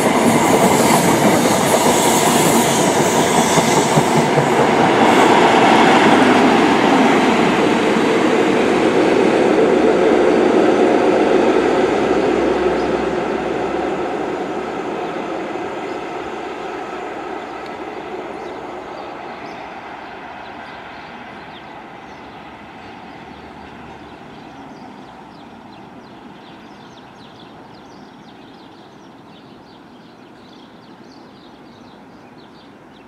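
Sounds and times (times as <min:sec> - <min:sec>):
train diesel engine: 0:00.0 - 0:29.6
rail noise: 0:00.0 - 0:33.0.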